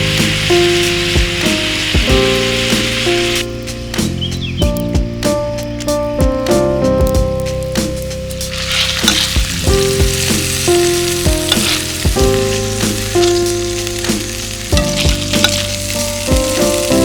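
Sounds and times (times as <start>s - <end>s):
meat sizzling over fire: 0.0s - 6.1s, 6.8s - 17.0s
fire crackling: 0.0s - 17.0s
gentle background music: 0.0s - 17.0s.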